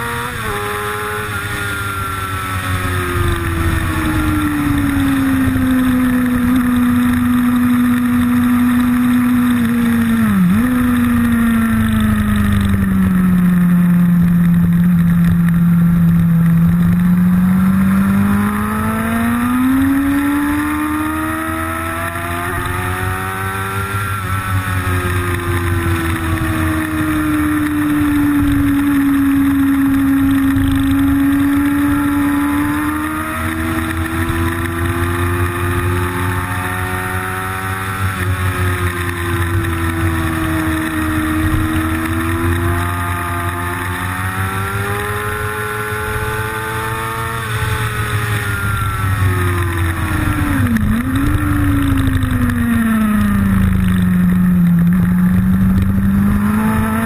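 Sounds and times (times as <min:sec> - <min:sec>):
racing vehicle engine drone: 0:00.0 - 0:57.0.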